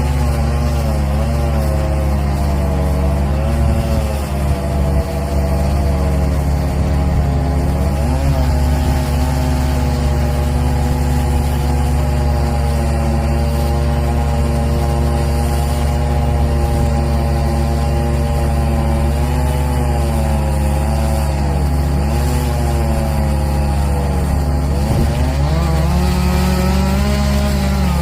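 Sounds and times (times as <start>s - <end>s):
power equipment engines droning: 0.0s - 28.0s.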